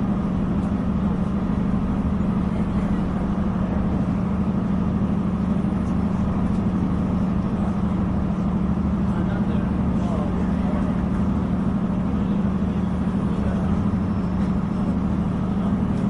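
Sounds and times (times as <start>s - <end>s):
train running with low drone: 0.0s - 16.0s.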